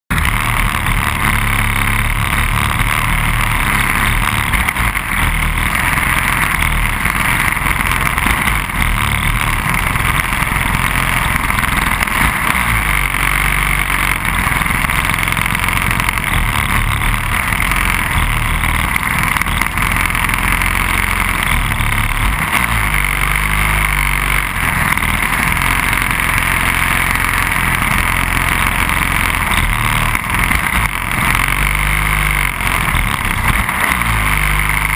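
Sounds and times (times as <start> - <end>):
kart engines idling: 0.1 - 34.9.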